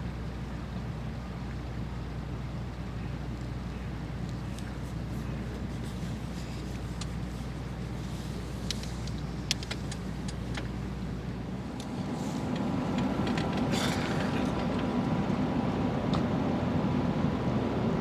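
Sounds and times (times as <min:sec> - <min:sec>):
distant engines rumbling: 0:00.0 - 0:18.0
outdoor background noise: 0:00.0 - 0:18.0.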